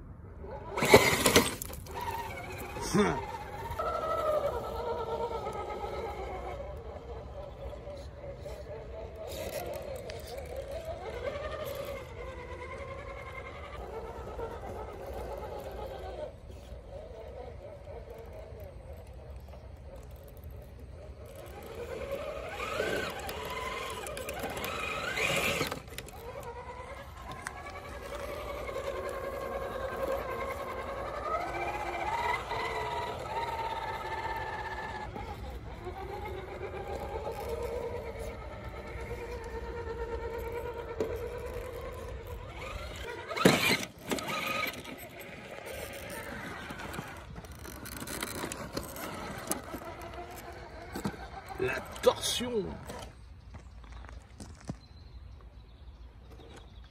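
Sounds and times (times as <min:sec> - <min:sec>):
electric motor and gears whining: 0:00.0 - 0:56.9.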